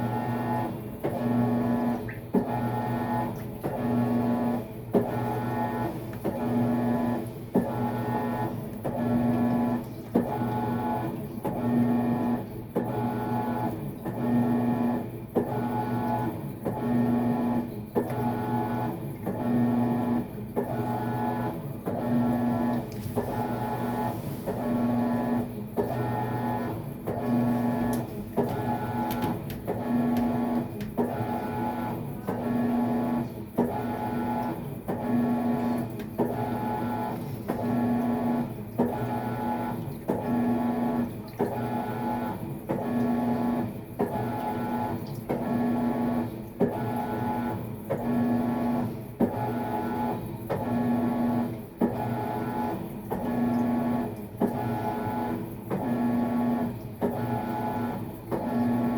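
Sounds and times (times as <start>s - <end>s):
washing machine motor humming: 0.0s - 58.9s.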